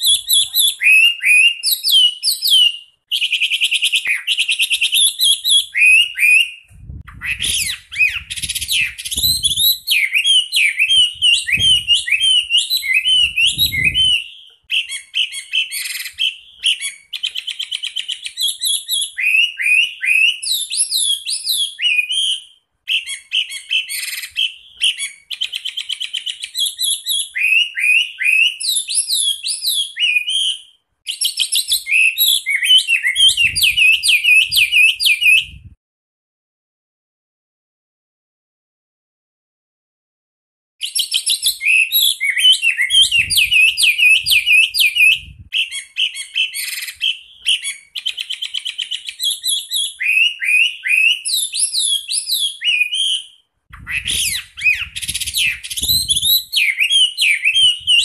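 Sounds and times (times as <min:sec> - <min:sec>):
bird singing whistles and trills: 0:00.0 - 0:35.8, 0:40.8 - 0:58.0.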